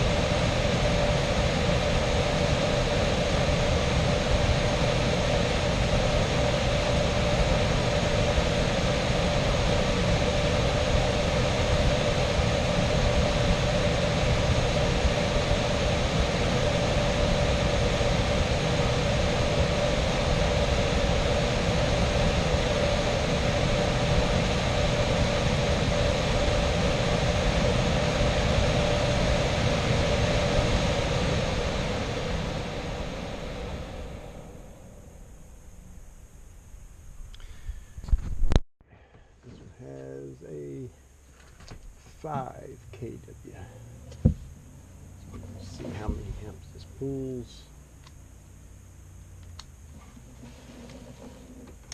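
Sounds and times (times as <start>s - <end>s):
blower fan humming: 0.0s - 51.9s.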